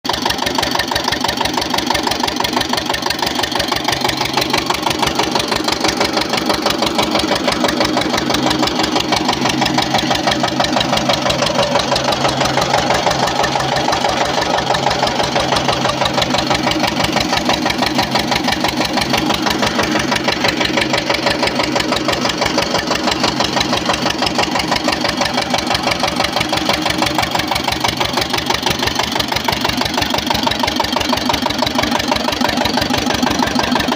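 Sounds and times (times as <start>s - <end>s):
pump engine chugging: 0.1s - 33.9s.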